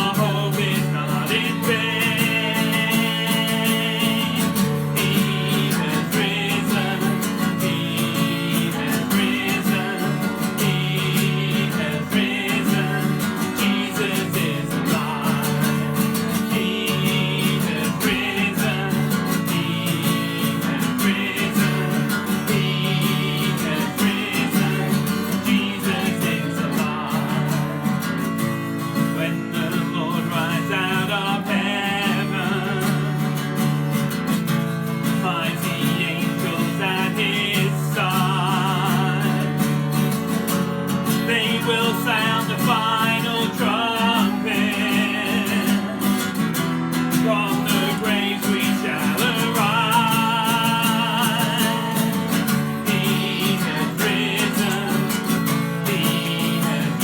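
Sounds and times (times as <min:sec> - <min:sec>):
person singing: 0:00.0 - 0:28.3, 0:29.0 - 0:33.6, 0:35.0 - 0:40.1, 0:41.1 - 0:57.0
strummed acoustic guitar: 0:00.0 - 0:57.0.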